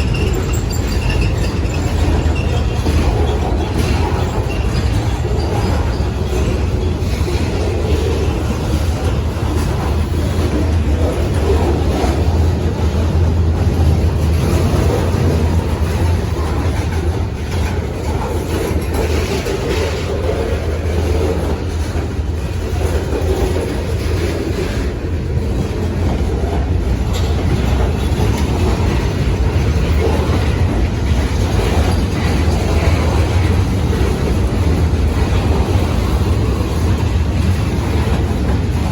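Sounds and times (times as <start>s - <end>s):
train rolling over rails: 0.0s - 38.9s.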